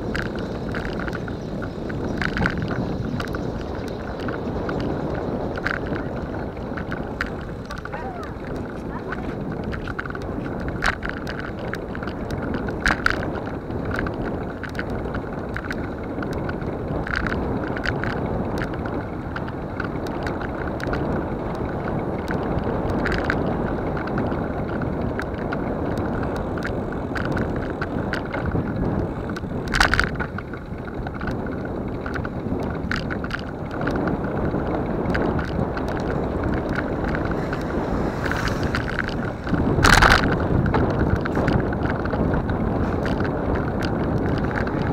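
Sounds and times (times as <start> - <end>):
road rumble: 0.0 - 44.9
wind on microphone: 0.0 - 44.9.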